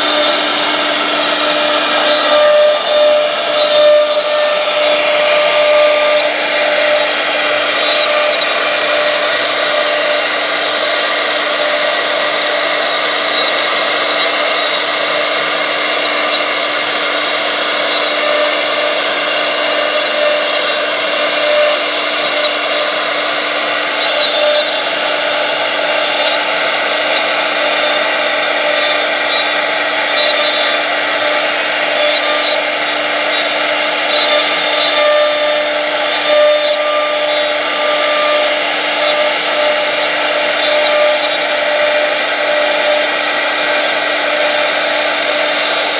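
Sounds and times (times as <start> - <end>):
router spindle whining: 0.0 - 45.9.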